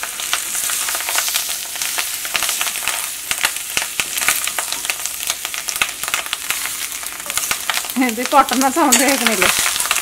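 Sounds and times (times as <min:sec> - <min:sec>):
fish roe sizzling and popping: 0:00.0 - 0:10.0
metal spoon stirring pan: 0:00.0 - 0:10.0.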